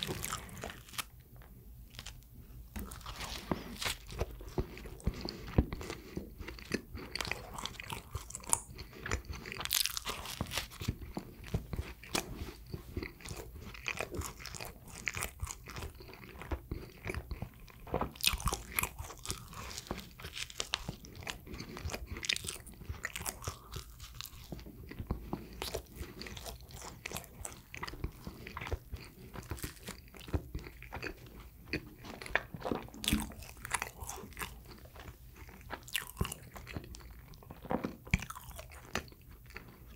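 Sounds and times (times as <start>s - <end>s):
person chewing bread: 0.0s - 39.9s.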